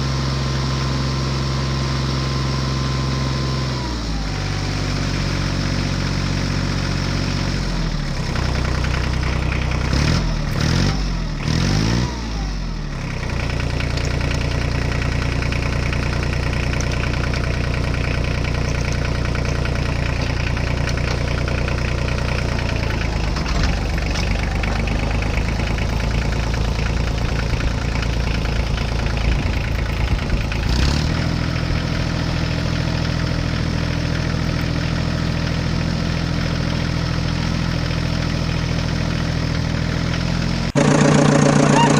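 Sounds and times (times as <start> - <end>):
heavy machine engine revving: 1.7 - 36.5, 39.7 - 41.9.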